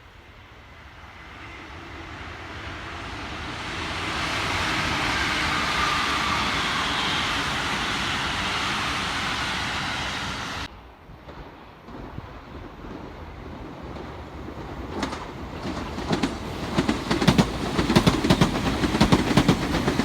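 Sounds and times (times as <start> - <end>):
train rushing rumble: 0.0 - 20.0.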